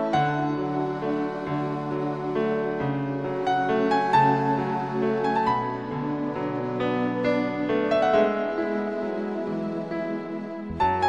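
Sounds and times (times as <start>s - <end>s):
piano playing gentle chords: 0.0s - 11.0s.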